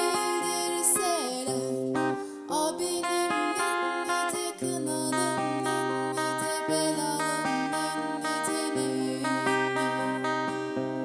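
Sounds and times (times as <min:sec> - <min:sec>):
woman singing: 0:00.0 - 0:10.8
strummed acoustic guitar: 0:00.0 - 0:11.0.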